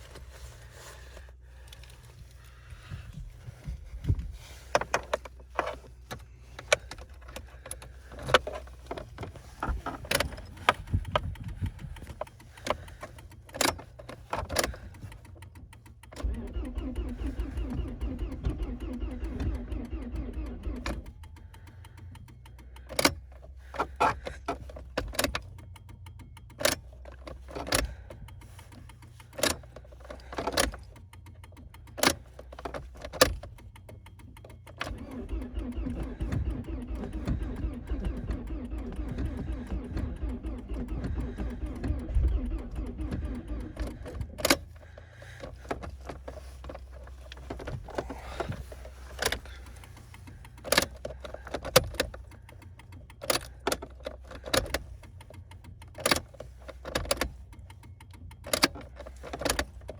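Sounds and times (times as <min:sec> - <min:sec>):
engine cranked by starter: 0:00.0 - 0:59.9
sharp clicks and knocks: 0:00.0 - 0:59.9.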